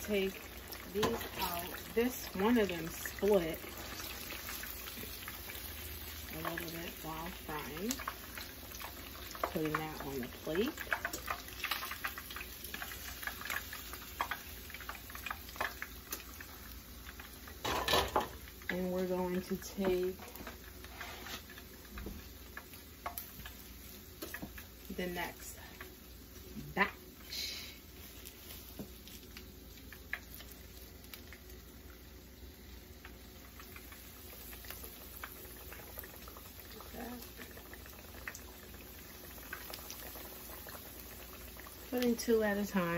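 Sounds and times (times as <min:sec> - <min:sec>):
oil sizzling with crackles and pops: 0:00.0 - 0:42.9.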